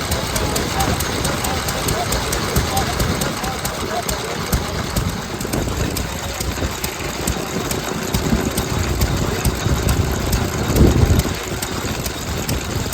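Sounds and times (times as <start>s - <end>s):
stationary engine chugging: 0.0s - 12.9s.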